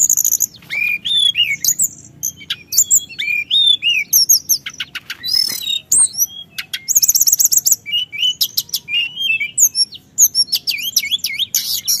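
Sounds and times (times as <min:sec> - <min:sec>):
bird singing rapid chirps: 0:00.0 - 0:12.0.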